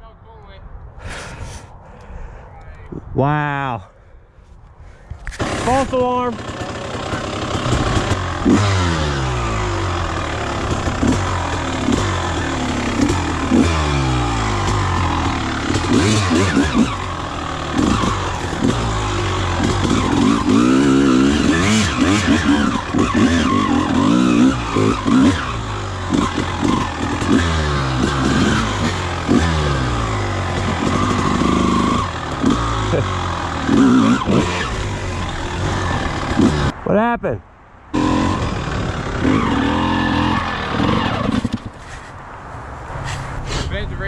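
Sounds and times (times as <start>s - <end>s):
dirt bike engine revving: 5.3s - 36.9s, 37.9s - 42.2s.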